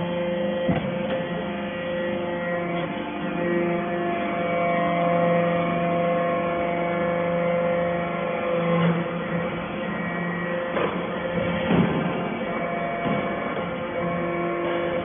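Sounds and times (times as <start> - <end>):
hydraulic baler humming: 0.0 - 15.0.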